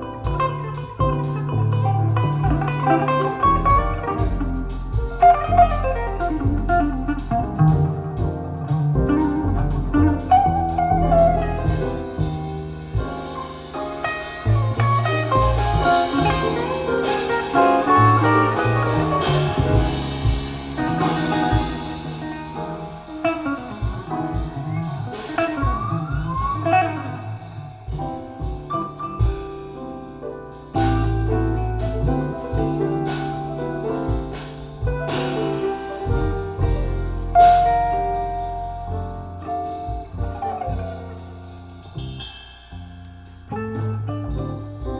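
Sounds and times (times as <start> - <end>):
jazz with piano bass and drums: 0.0 - 44.9.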